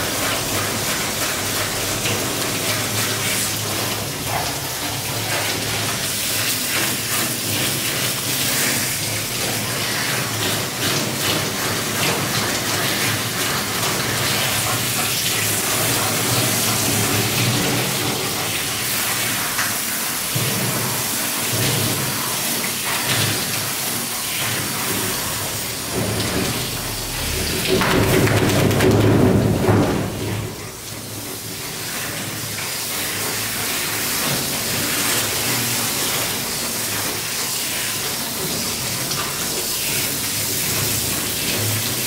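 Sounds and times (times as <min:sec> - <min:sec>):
shower head spraying water: 0:00.0 - 0:42.0
water splashing on metal tub: 0:00.0 - 0:42.0.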